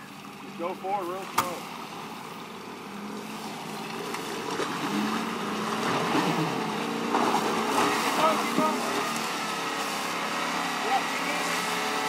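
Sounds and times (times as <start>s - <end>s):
pickup truck engines revving: 0.0s - 12.0s.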